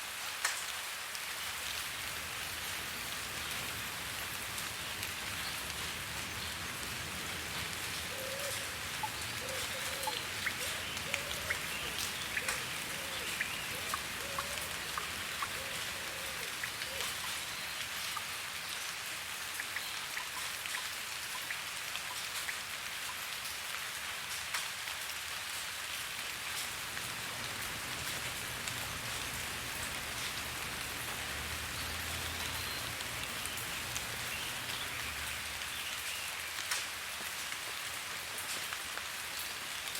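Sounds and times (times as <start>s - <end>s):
steady rain hiss: 0.0s - 39.9s
raindrops ticking on hard surface: 0.2s - 39.9s.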